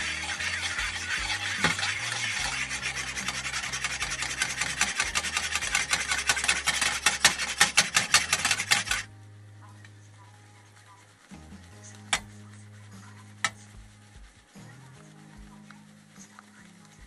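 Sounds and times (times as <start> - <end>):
frying pan scraping on grate: 0.0 - 9.1, 10.2 - 16.9.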